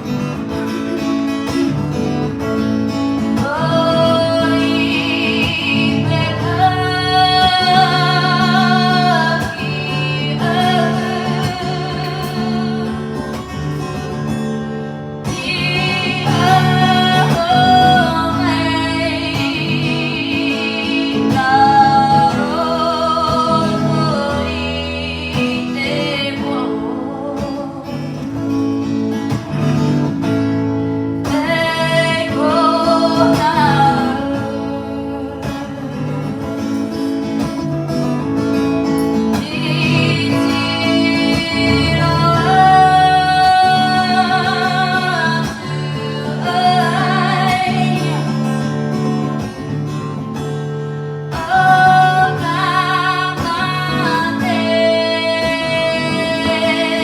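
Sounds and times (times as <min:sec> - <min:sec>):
strummed acoustic guitar: 0:00.0 - 0:57.0.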